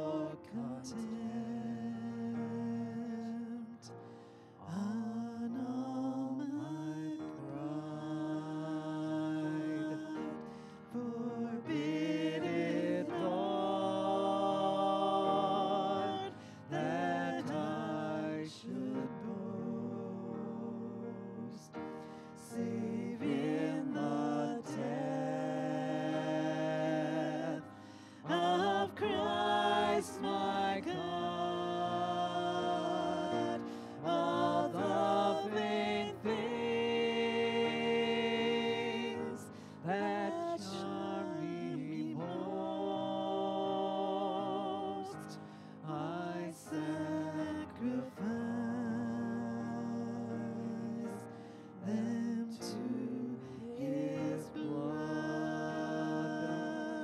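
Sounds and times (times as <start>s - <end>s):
woman singing a hymn: 0.0s - 3.6s, 4.7s - 21.6s, 22.4s - 51.0s
piano accompaniment: 0.0s - 57.0s.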